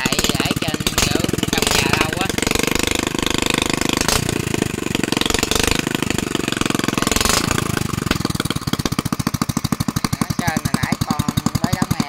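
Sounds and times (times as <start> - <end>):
unmuffled petrol engine running fast: 0.0 - 12.0.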